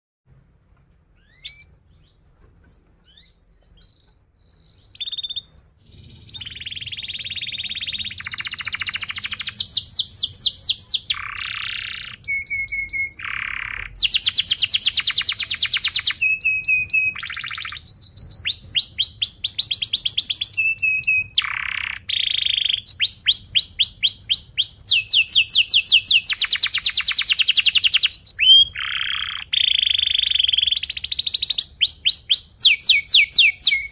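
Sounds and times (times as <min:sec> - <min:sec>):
canary singing: 0:01.0 - 0:33.9.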